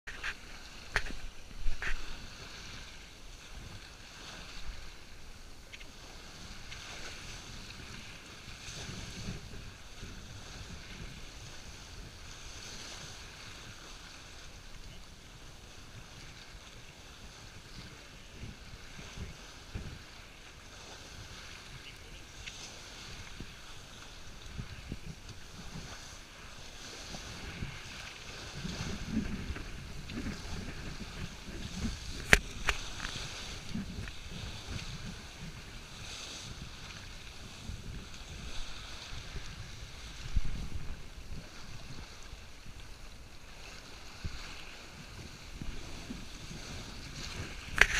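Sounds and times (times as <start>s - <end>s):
water rushing along boat hull: 0.1s - 47.9s
wind rumble on microphone: 0.1s - 47.9s.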